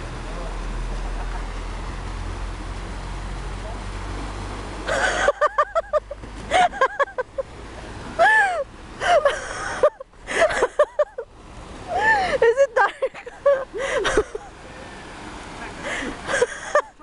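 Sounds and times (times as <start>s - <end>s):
water rushing and splashing: 0.1s - 17.0s.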